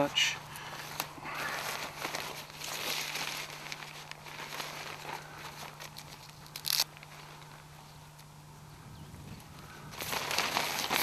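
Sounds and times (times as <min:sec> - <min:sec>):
nylon tent fabric rustling: 0:00.0 - 0:08.2, 0:09.8 - 0:11.0
small crackles: 0:00.5 - 0:08.4, 0:09.4 - 0:11.0.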